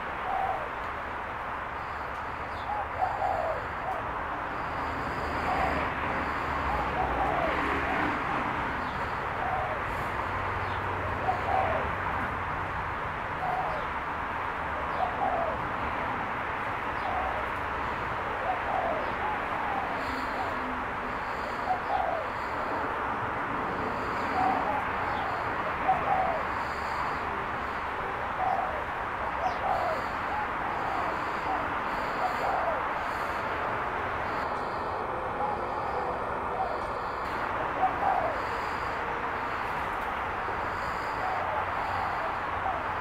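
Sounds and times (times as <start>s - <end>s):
dove cooing: 0.0s - 0.9s, 1.8s - 43.0s.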